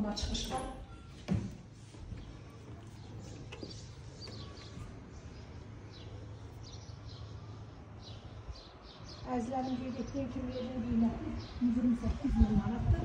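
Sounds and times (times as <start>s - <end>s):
low outdoor hum: 0.0s - 13.0s
small birds chirping: 1.9s - 12.7s.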